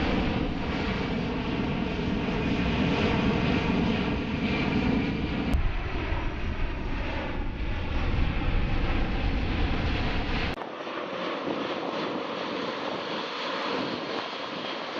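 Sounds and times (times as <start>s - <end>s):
jet engine roar: 0.0s - 14.9s.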